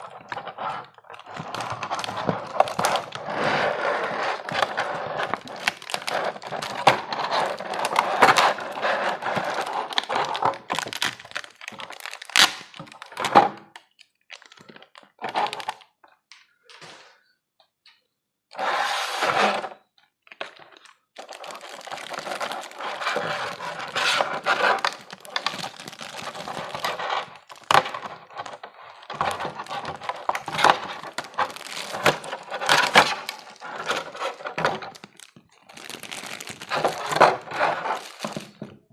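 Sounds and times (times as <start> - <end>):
packaging crinkling and tearing: 0.0 - 15.9, 20.3 - 38.9.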